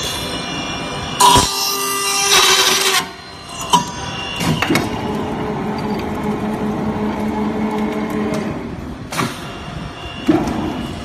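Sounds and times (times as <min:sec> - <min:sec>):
roll forming machine humming: 0:00.0 - 0:11.0.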